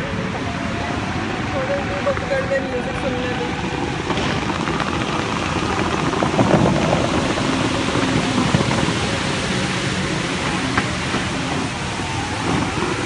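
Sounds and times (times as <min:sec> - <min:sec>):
fountain spray falling on water: 0:00.0 - 0:13.0.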